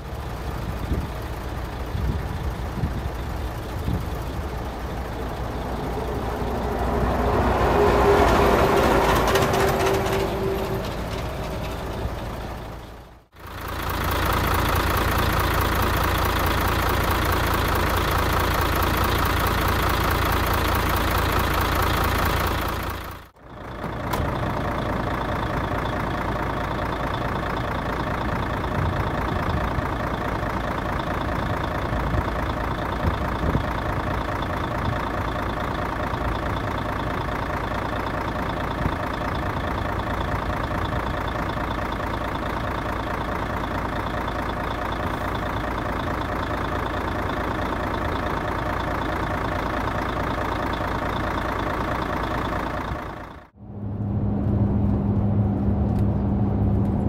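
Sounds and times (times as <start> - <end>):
truck diesel engine idling: 0.0 - 54.4.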